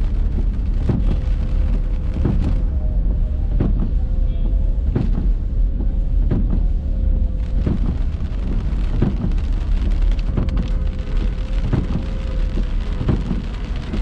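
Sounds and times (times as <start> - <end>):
car road and engine rumble: 0.0 - 14.0
faint whine: 0.0 - 14.0
rain: 0.0 - 14.0.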